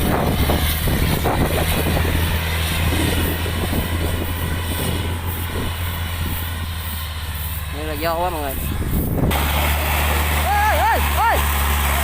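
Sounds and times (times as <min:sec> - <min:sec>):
diesel engine humming under load: 0:00.0 - 0:12.0.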